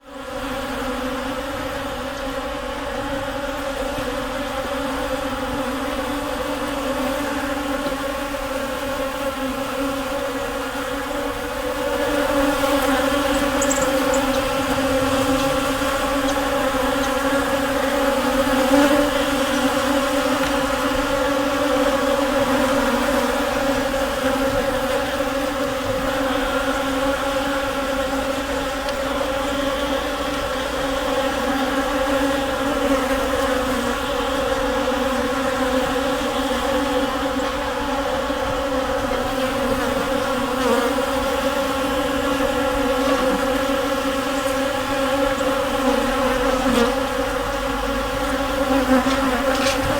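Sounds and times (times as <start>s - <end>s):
swarm of bees buzzing: 0.0s - 49.9s.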